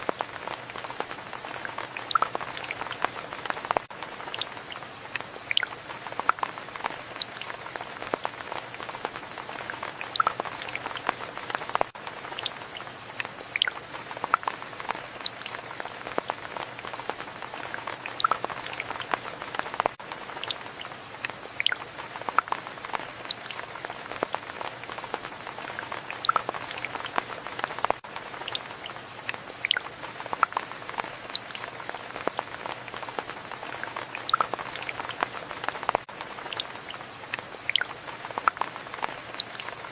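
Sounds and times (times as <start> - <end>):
rain hissing: 0.0 - 39.9
raindrops ticking: 0.0 - 39.9.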